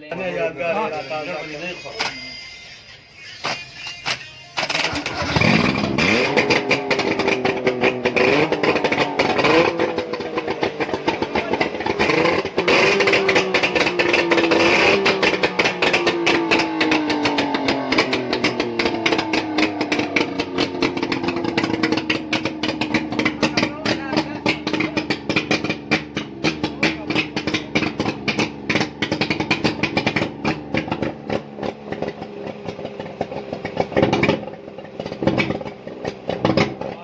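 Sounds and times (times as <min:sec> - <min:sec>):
two-stroke engine revving: 0:04.6 - 0:37.0.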